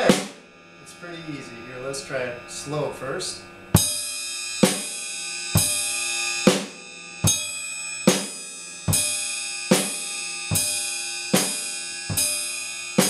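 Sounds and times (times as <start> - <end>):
cymbal ringing: 0.0 - 13.0.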